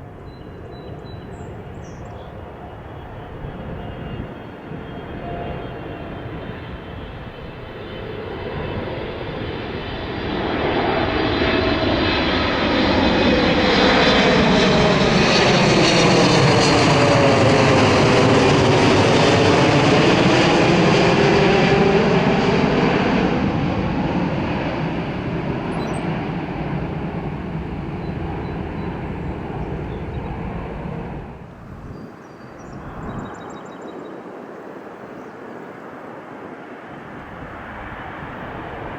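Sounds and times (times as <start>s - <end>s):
jet airliner passing overhead: 0.0s - 38.9s.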